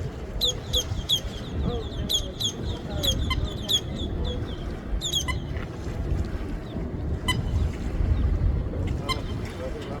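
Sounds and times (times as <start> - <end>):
low wind rumble: 0.0 - 10.0.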